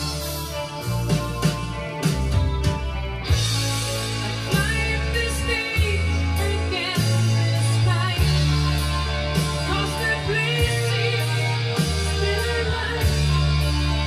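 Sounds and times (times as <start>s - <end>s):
guitar: 0.0s - 14.0s
held bass notes: 0.0s - 14.0s
rock song with singing: 0.0s - 14.0s.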